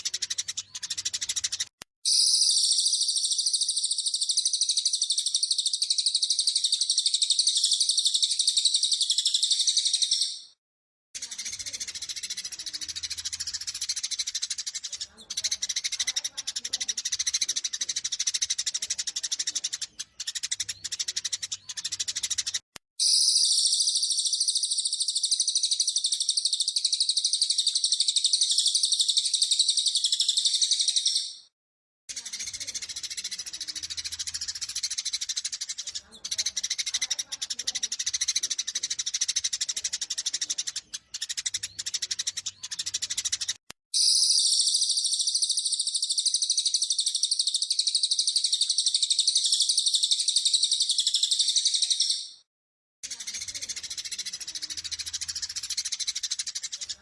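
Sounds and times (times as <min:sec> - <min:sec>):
high-pitched bird chatter: 0:00.0 - 0:10.6, 0:11.2 - 0:31.5, 0:32.1 - 0:57.0
sparrows chirping: 0:00.0 - 0:10.6, 0:11.2 - 0:31.5, 0:32.1 - 0:57.0.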